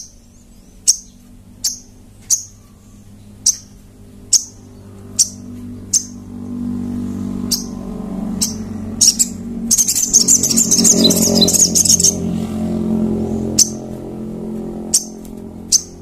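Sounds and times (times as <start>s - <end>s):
bird chipping and trilling: 0.0s - 16.0s.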